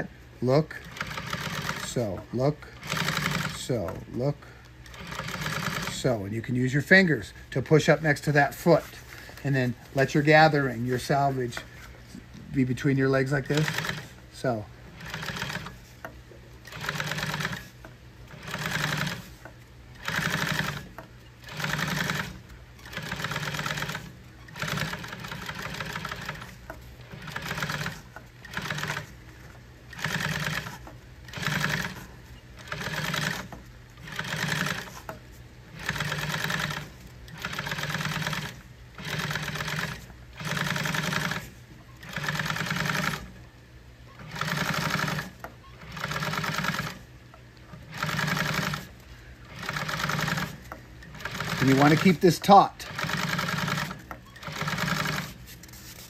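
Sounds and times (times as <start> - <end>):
sewing machine stitching: 0.0 - 6.2, 12.6 - 43.4, 44.1 - 47.1, 47.7 - 55.8.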